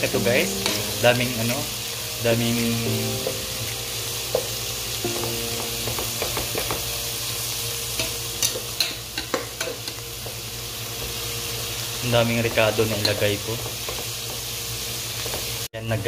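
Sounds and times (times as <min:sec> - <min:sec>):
food sizzling in a pot: 0:00.0 - 0:15.7.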